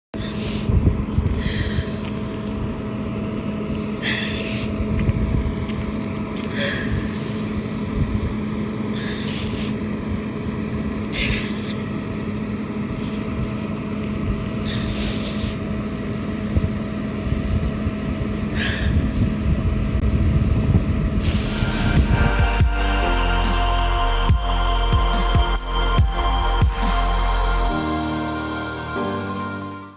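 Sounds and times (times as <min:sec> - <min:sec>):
engine running: 0:00.2 - 0:29.9.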